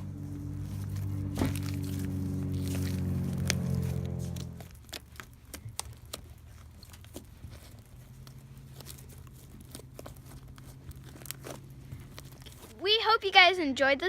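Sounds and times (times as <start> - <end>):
slime squishing and crackling: 0.0 - 13.0.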